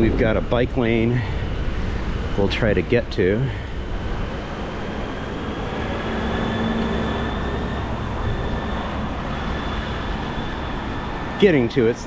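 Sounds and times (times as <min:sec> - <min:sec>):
low engine-like hum: 0:00.0 - 0:12.0
street traffic rumble: 0:00.0 - 0:12.0.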